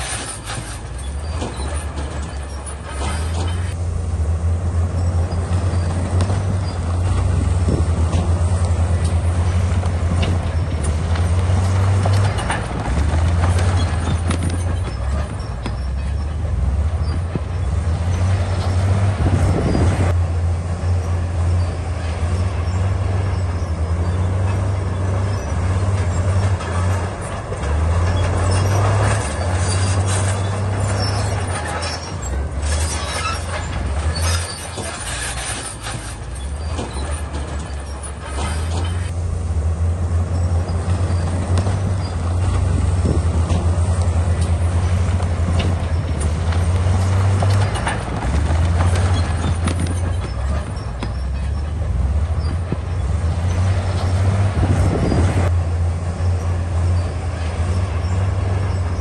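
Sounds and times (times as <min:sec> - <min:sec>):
bulldozer diesel engine: 0:00.0 - 0:59.0
steel tracks clattering and squealing: 0:00.0 - 0:59.0.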